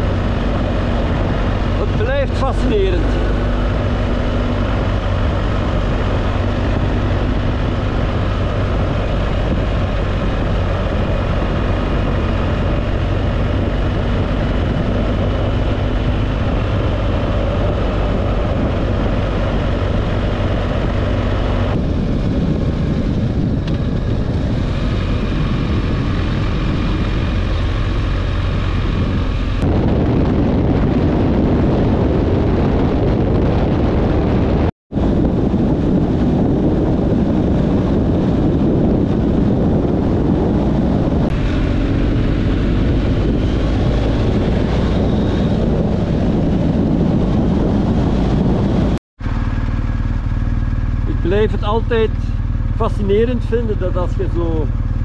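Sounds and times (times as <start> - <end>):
car engine and road noise: 0.0 - 55.0
rough loud rumble: 0.0 - 55.0.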